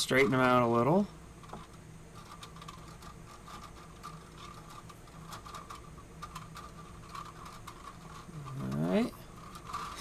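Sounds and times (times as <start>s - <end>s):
low steady hum: 0.0s - 10.0s
plastic filament clicking: 1.4s - 10.0s.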